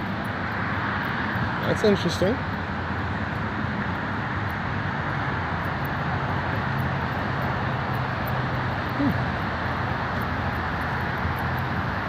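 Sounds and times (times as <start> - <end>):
road traffic hiss: 0.0 - 12.0
vehicle engine humming: 0.0 - 12.0.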